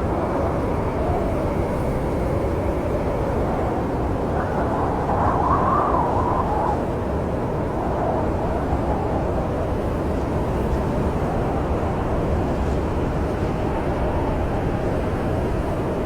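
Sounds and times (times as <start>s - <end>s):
snowstorm wind rumbling: 0.0s - 16.0s.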